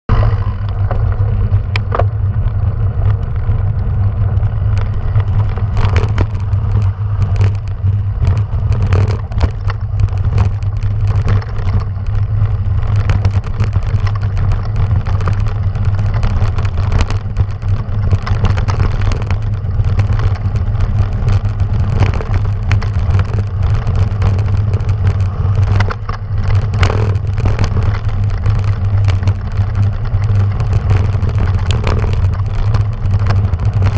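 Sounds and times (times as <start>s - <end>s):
bicycle rumbling over gravel: 0.1s - 33.9s
bike clattering over stones: 0.1s - 33.9s.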